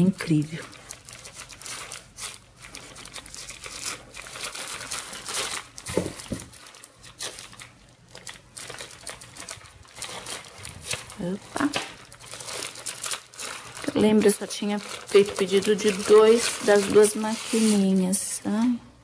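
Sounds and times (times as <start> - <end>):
packaging crinkling and rustling: 0.0 - 18.8.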